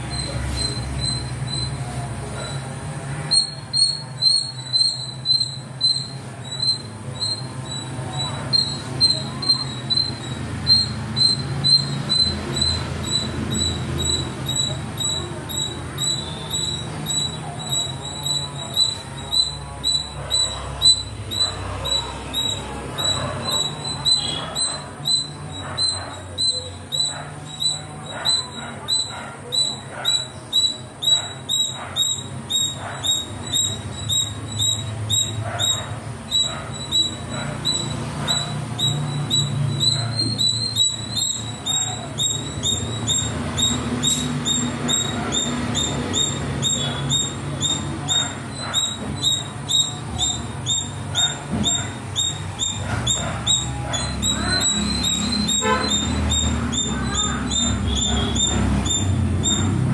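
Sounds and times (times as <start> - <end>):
squirrel chirping: 0.0 - 59.9.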